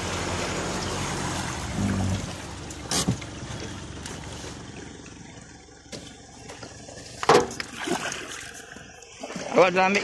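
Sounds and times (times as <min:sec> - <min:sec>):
floodwater rushing against vehicle: 0:00.0 - 0:10.0.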